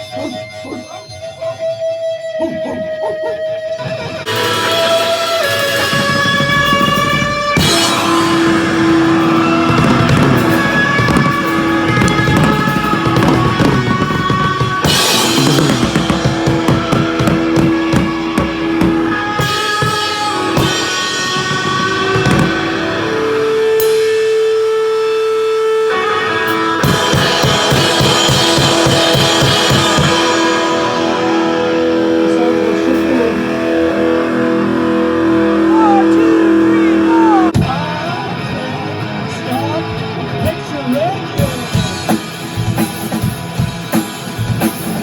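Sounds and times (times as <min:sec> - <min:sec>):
electric guitar: 0:00.0 - 0:45.0
drum kit: 0:03.8 - 0:45.0.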